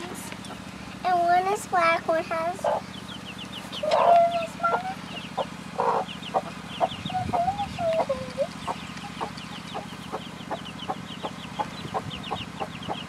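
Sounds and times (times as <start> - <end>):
chicks peeping: 0.0 - 13.0
hen clucking: 2.3 - 13.0.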